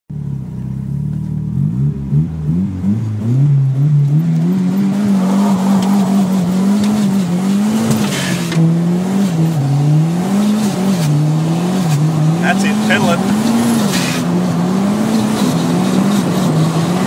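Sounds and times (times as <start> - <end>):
car engine from inside cabin: 0.1 - 17.0.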